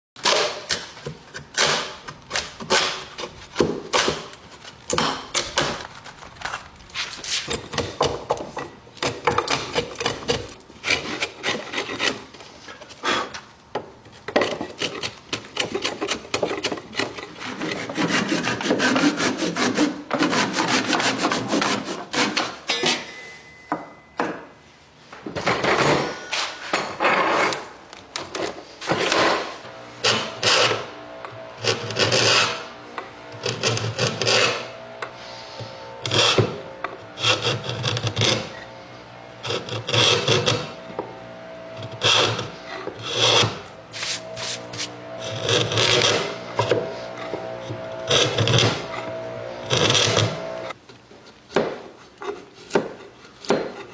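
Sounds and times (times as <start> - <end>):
hand tools scraping wood: 0.2 - 13.5, 14.1 - 23.1, 26.2 - 53.9.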